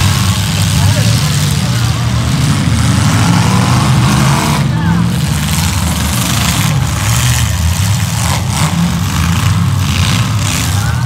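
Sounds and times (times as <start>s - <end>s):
car engines revving loudly: 0.0s - 11.0s.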